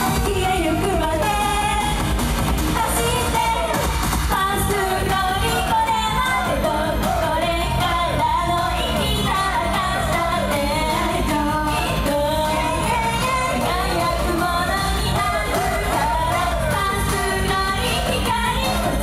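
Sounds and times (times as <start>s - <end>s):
female voices singing: 0.0s - 2.0s, 2.7s - 19.0s
amplified pop backing track: 0.0s - 19.0s.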